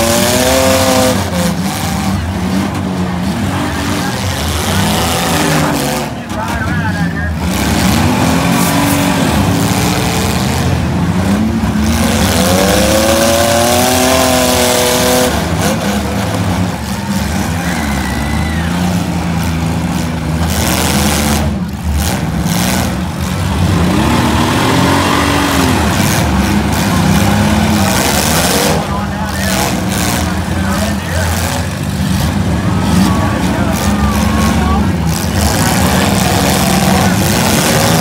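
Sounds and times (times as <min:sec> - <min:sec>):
car engines revving hard: 0:00.0 - 0:38.0.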